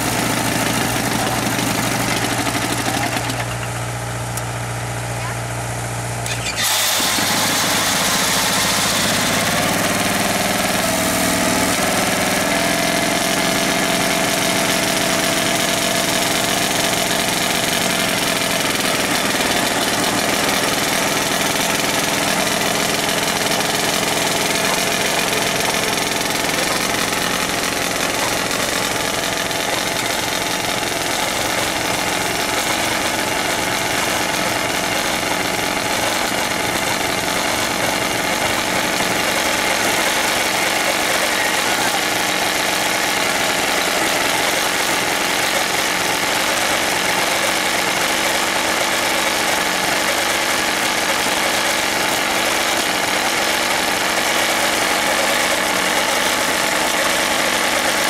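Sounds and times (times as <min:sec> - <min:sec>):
diesel engine running: 0:00.0 - 0:58.0
engine whine: 0:00.0 - 0:58.0.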